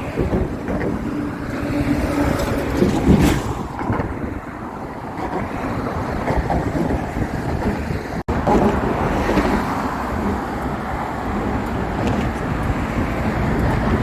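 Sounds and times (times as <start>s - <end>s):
vehicle traffic noise: 0.0s - 14.0s
wind buffeting microphone: 0.0s - 14.0s.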